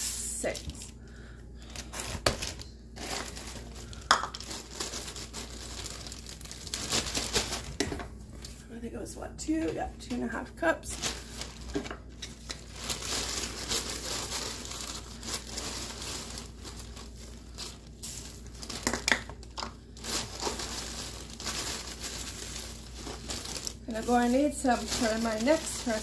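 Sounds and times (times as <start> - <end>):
plastic bag crinkling: 0.2 - 8.0, 10.6 - 26.0.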